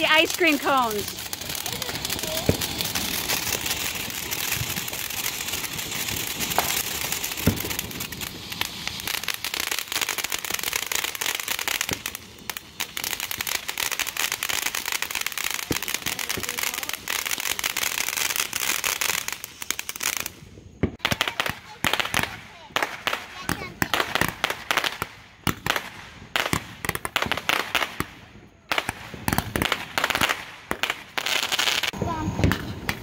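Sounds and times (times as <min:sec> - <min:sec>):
fireworks hissing and crackling: 0:00.0 - 0:33.0
sharp firework pops: 0:01.1 - 0:13.4, 0:14.8 - 0:17.5, 0:18.3 - 0:33.0.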